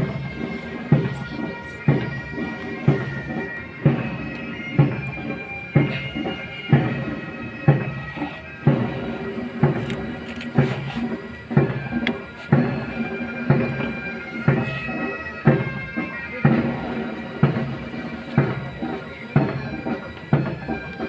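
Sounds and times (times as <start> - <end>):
bagpipes playing a march: 0.0 - 21.0.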